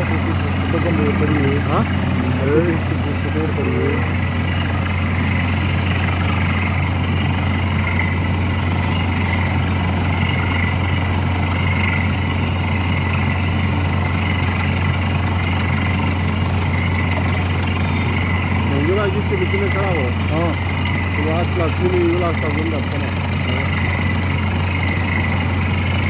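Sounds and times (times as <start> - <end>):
drilling rig engine humming: 0.0 - 26.0.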